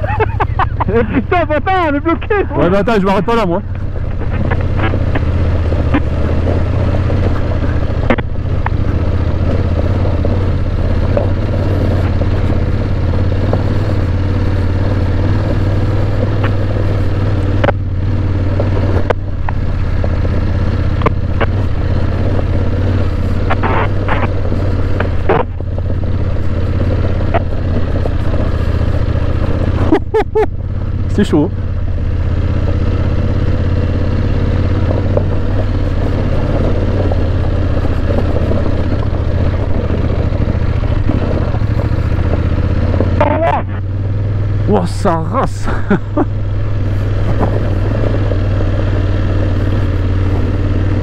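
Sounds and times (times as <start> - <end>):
motorcycle engines running: 0.0 - 51.0.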